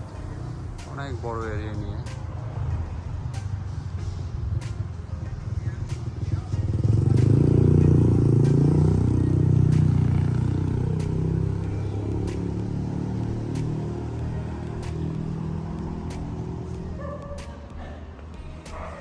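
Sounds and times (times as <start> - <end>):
vehicle engine running: 0.0 - 18.7.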